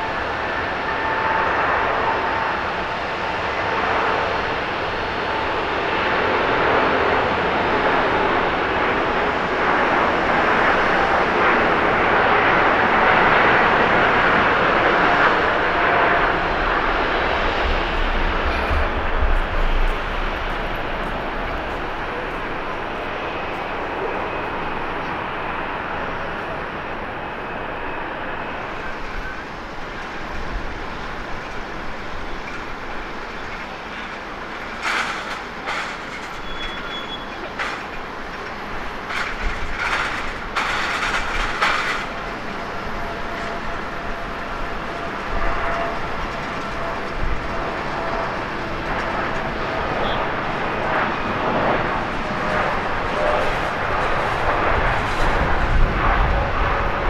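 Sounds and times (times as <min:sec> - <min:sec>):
jet engine noise: 0:00.0 - 0:57.0.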